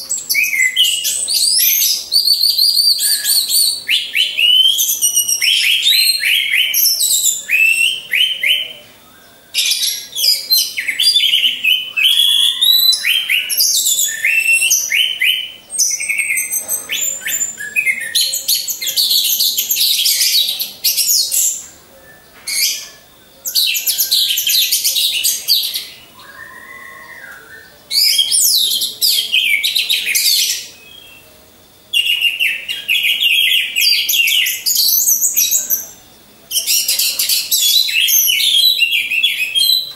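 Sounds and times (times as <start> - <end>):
thrush singing whistles and trills: 0.0 - 39.9.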